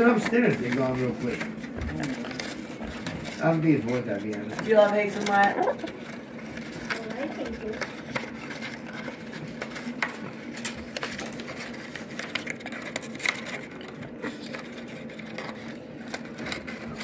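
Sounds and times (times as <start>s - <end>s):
parrot chewing cardboard: 0.0s - 17.0s.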